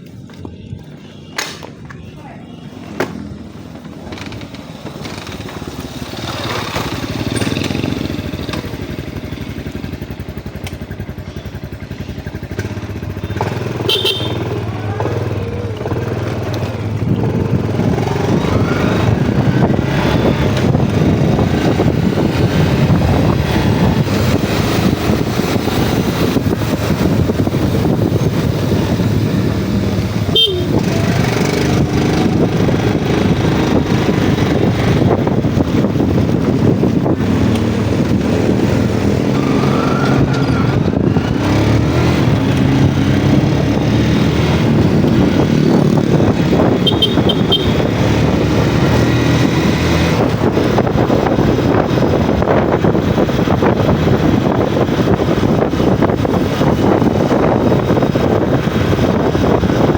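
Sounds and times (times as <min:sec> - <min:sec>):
motorcycle engine revving: 0:02.6 - 0:59.9.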